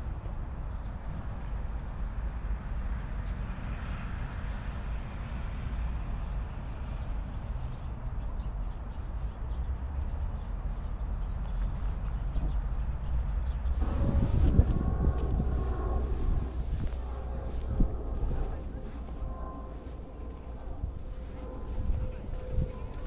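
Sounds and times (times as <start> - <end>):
deep outdoor rumble: 0.0 - 23.0.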